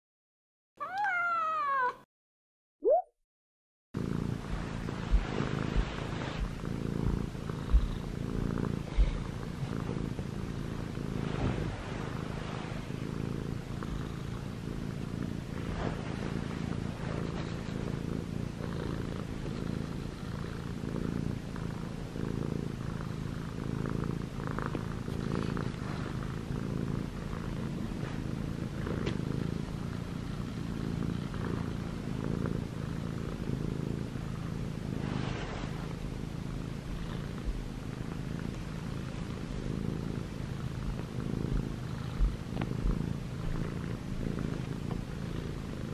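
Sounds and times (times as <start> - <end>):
kitten purring: 4.0 - 45.9.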